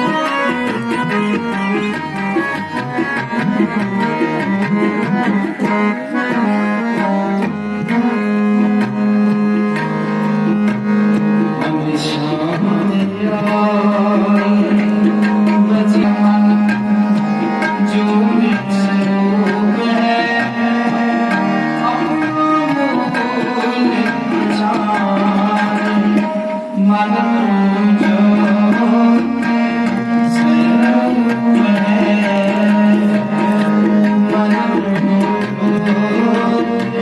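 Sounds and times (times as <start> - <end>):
harmonium chords: 0.0 - 37.0
tabla drumming: 0.0 - 37.0.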